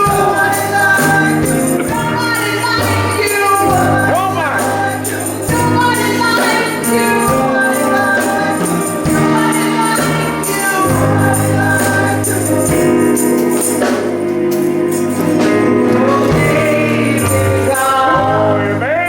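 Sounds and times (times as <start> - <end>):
band with bass and keyboard: 0.0 - 19.0
group of singers: 0.0 - 19.0
tambourine shaking: 0.0 - 19.0.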